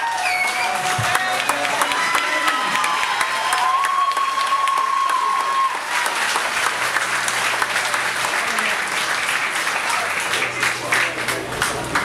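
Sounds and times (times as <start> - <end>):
crowd clapping and cheering: 0.0 - 12.0.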